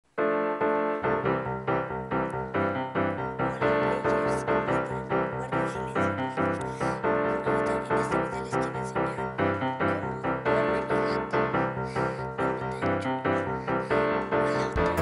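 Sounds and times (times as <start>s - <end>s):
piano music: 0.1s - 15.0s.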